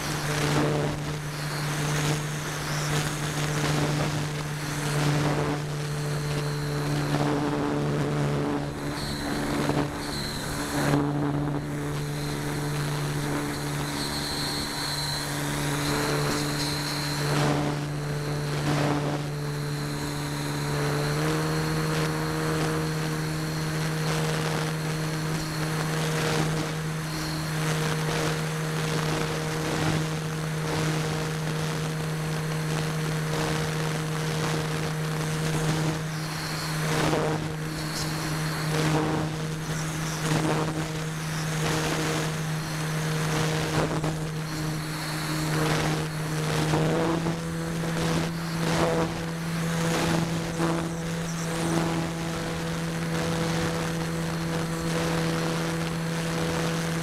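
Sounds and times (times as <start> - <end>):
electric motor and propeller hum: 0.0 - 57.0.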